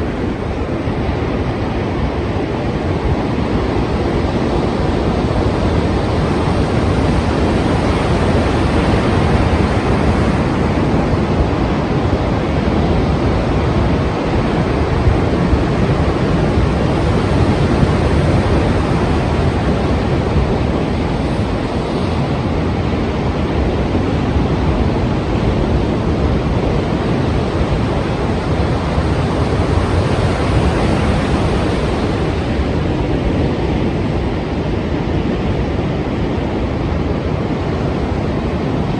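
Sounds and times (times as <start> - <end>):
sea waves and surf: 0.0 - 38.9
wind: 0.0 - 38.9.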